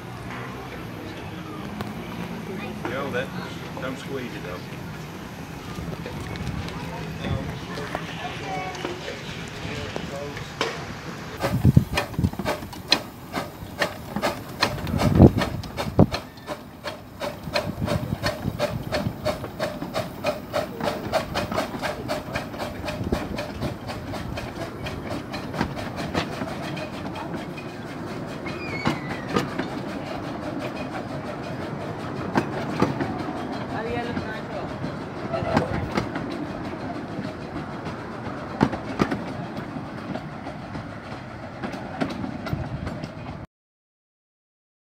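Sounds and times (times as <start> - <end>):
wheels clicking over rail joints: 0.0 - 43.4.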